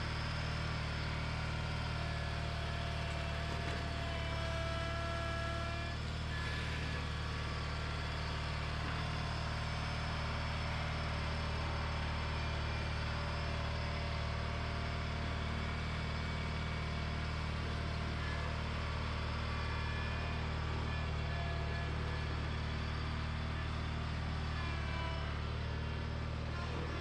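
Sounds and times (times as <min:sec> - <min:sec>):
garden tractor engine running: 0:00.0 - 0:27.0.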